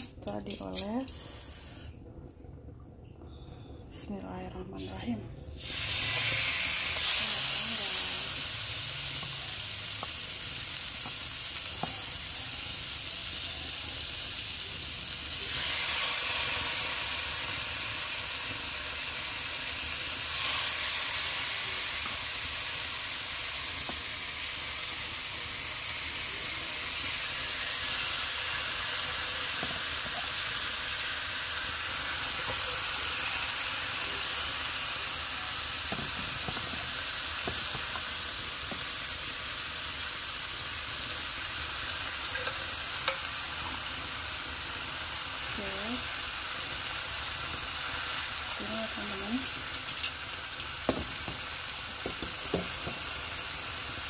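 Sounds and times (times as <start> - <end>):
fish sizzling on grill plate: 5.5 - 54.0.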